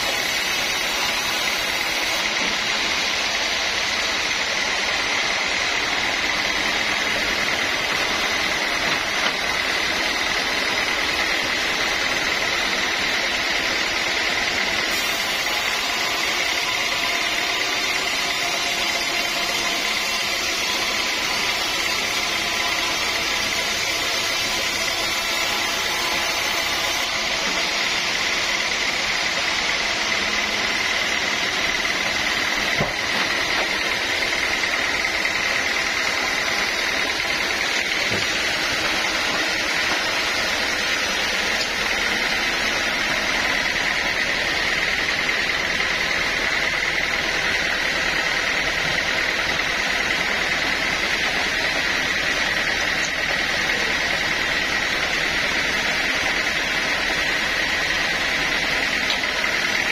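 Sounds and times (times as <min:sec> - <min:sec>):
sawmill saw whining: 0:00.0 - 0:59.9.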